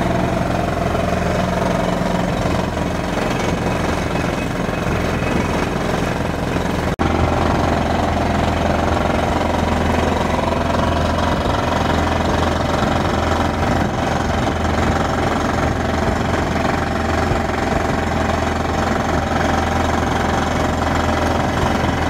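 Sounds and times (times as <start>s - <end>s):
drilling rig hammering: 0.0s - 22.0s.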